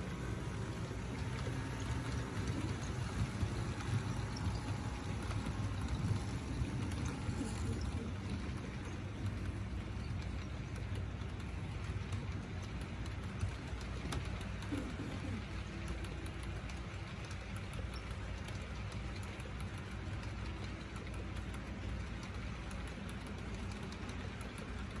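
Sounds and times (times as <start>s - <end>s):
model train wheels rumbling: 0.0s - 25.0s.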